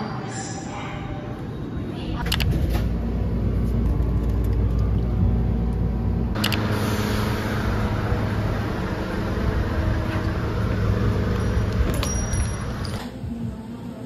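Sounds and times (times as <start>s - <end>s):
street traffic: 0.0s - 14.0s
low hum: 0.7s - 14.0s
low rumble: 2.1s - 13.6s.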